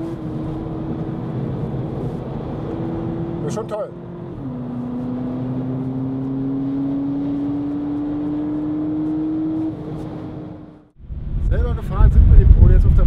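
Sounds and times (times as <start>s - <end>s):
car engine accelerating: 0.0s - 11.6s
road and tyre noise: 0.0s - 13.0s.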